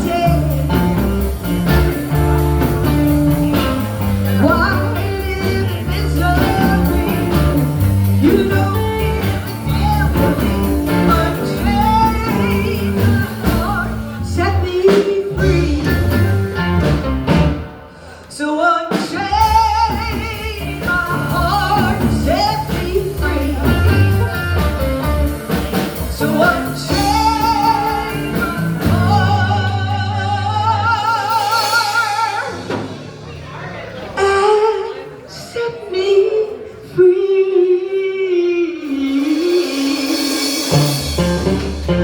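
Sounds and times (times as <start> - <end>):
person singing with vibrato: 0.0 - 16.7, 17.8 - 24.8, 25.7 - 32.8, 34.2 - 42.0
bass: 0.0 - 17.9, 18.9 - 42.0
guitar: 0.0 - 42.0.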